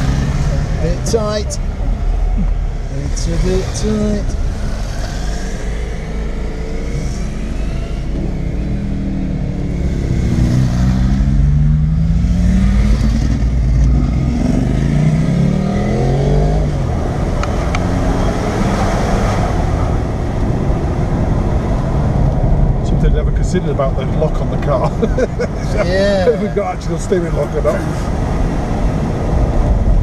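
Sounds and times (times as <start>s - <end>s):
car engine accelerating: 0.0s - 30.0s
road noise: 0.0s - 30.0s.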